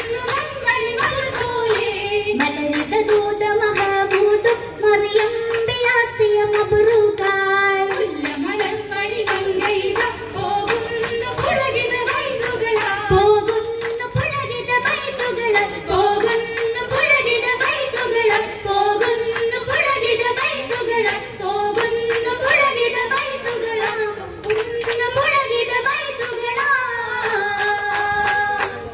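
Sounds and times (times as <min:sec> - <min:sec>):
rhythmic hand claps: 0:00.0 - 0:28.9
women singing through a sound system: 0:00.0 - 0:28.9.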